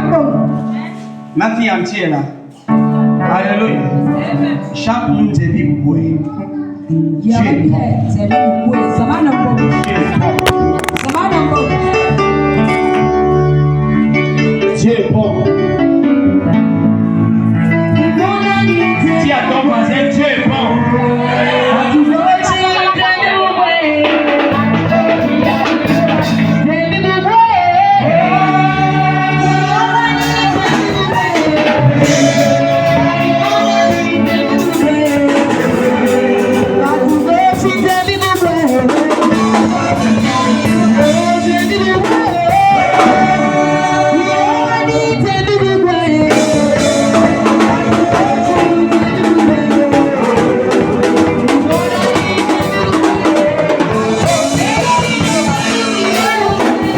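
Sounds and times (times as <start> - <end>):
gospel song with drum kit: 0.0 - 56.9.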